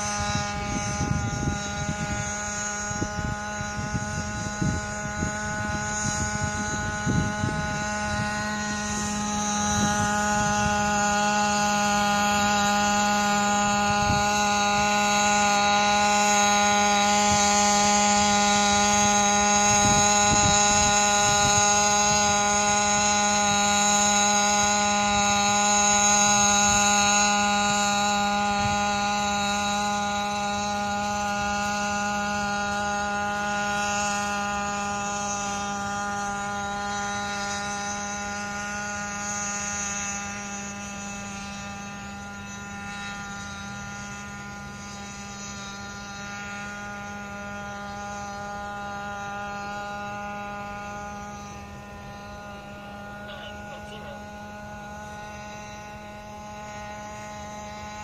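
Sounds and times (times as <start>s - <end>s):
quadcopter humming: 0.0s - 58.0s.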